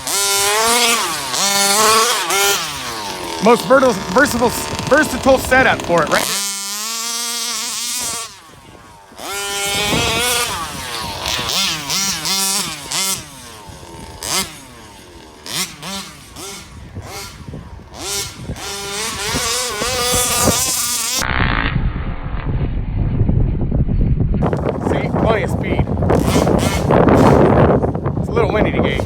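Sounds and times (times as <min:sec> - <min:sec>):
two-stroke engine revving: 0:00.0 - 0:21.8, 0:24.4 - 0:29.0.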